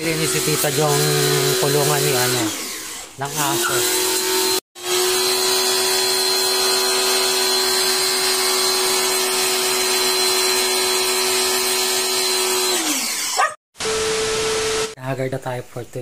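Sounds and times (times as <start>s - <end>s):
small electric motor whining: 0.0s - 14.9s.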